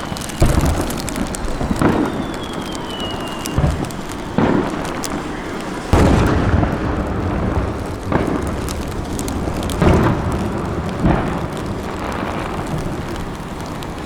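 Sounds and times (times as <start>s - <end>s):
faint crackling: 0.0s - 14.0s
fireworks booming: 0.0s - 14.0s
rolling rumble of echoes: 0.0s - 14.0s.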